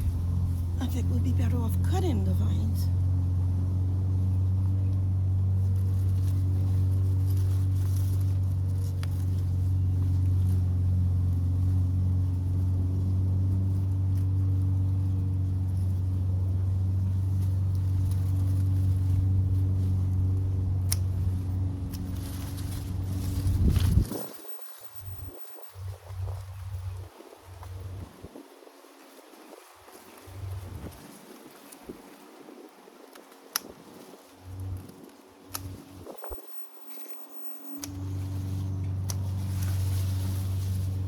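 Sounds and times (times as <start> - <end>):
low machine hum: 0.0 - 28.3, 34.3 - 41.0
faint rustling: 4.2 - 41.0.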